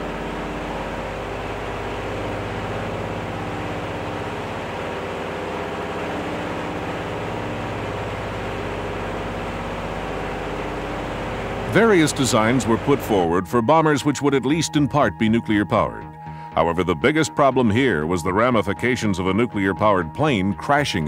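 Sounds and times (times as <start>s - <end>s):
aircraft engines droning: 0.0s - 16.9s.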